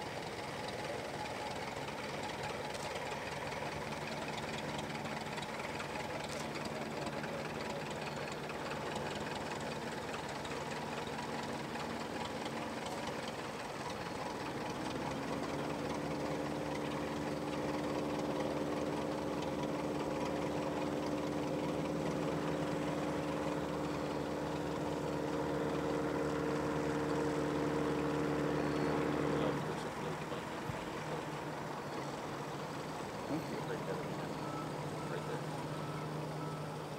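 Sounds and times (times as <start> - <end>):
light aircraft engine and propeller: 0.0 - 36.9.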